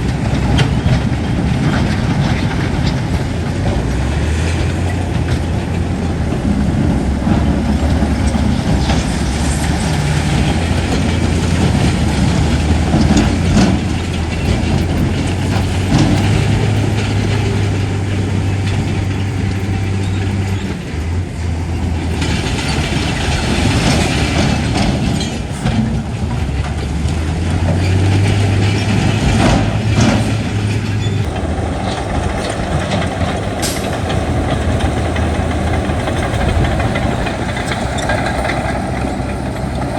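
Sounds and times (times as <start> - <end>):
clanks of rock and steel: 0.0 - 39.9
heavy diesel engine working: 0.0 - 39.9.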